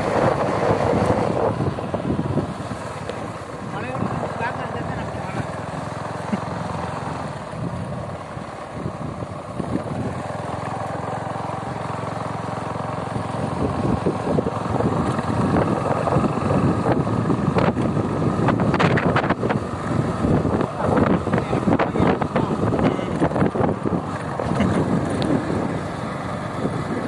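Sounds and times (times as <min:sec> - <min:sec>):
gusty wind buffeting microphone: 0:00.0 - 0:10.8, 0:12.9 - 0:27.0.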